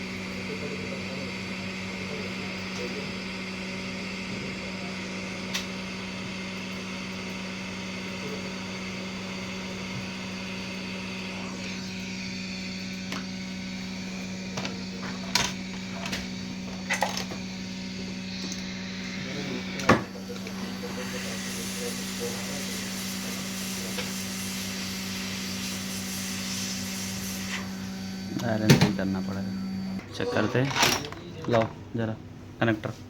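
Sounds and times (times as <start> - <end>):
equipment hum and fan hiss: 4.3 - 33.0.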